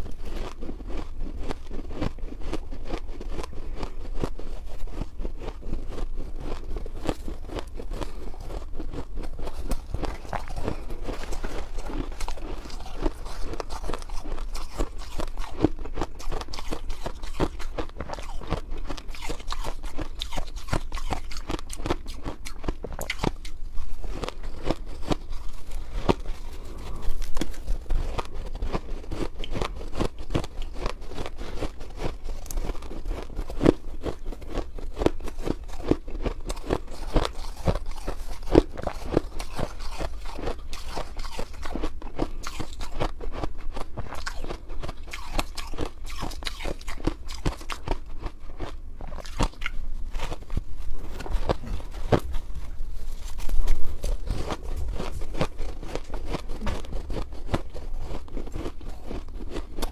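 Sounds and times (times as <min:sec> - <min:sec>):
ice crunched and chewed: 0:00.0 - 0:59.9.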